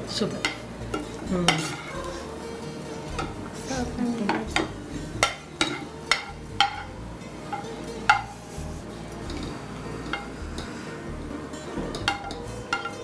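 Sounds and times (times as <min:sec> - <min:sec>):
light sizzle: 0:00.0 - 0:13.0
metal spatula scraping a frying pan: 0:00.2 - 0:03.7, 0:04.5 - 0:13.0.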